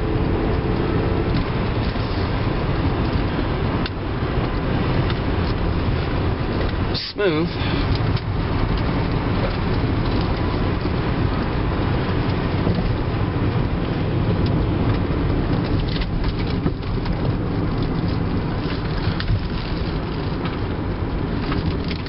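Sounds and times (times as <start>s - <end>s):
gravel crackling under tyres: 0.0s - 22.0s
tyre and road rumble: 0.0s - 22.0s.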